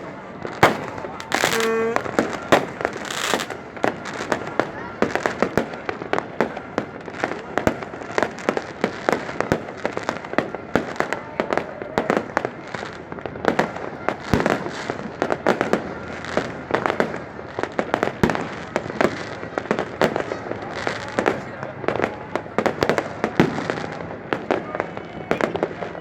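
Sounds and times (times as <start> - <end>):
fireworks bangs and pops: 0.0 - 26.0
fireworks crackling: 0.0 - 26.0.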